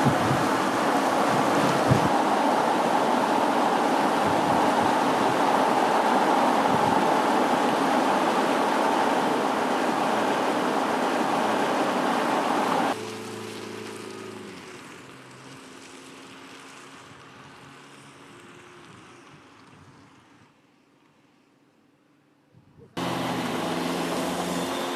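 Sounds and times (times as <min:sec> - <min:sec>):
faint engine hum: 0:00.0 - 0:21.5, 0:22.9 - 0:24.9
vehicle wind and road noise: 0:00.0 - 0:24.9.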